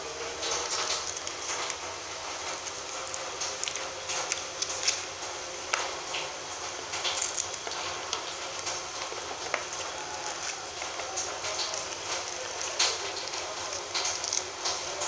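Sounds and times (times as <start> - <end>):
paper and plastic shuffling: 0.0 - 15.0.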